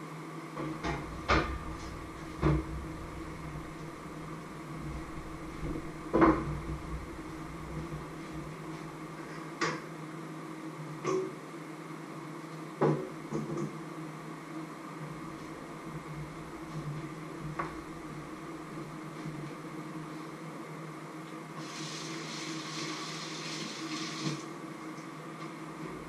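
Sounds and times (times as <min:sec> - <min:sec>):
appliance hum: 0:00.0 - 0:09.7, 0:14.4 - 0:26.0.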